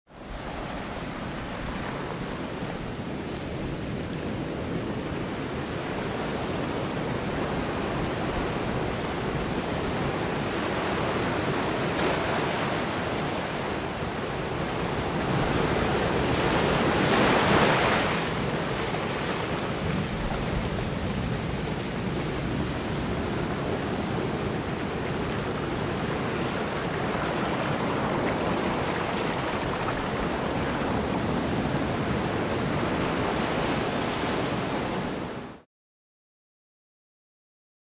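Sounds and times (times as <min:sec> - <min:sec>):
sea waves: 0:00.1 - 0:35.6
wind: 0:00.1 - 0:35.7.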